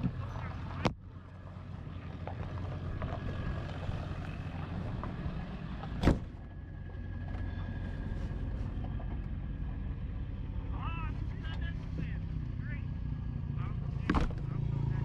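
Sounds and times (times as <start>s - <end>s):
vehicle rumble inside cab: 0.0s - 15.0s.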